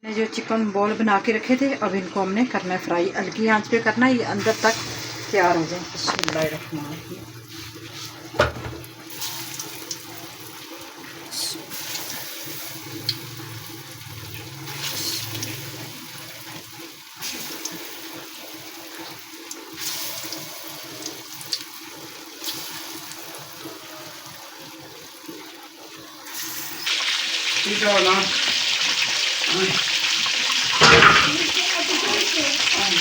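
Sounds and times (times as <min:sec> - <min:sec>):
food sizzling in oil: 0:04.4 - 0:33.0.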